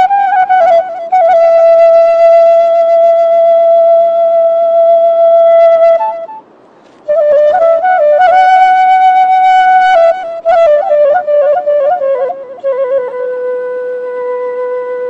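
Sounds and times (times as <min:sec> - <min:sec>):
solo wind instrument melody: 0:00.0 - 0:15.0.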